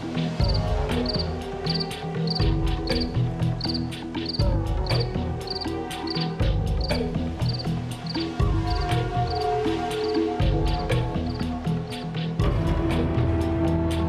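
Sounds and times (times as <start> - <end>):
insect chirping: 0.0 - 12.2
light ticking percussion: 0.0 - 13.7
dark music with low notes: 0.0 - 14.0.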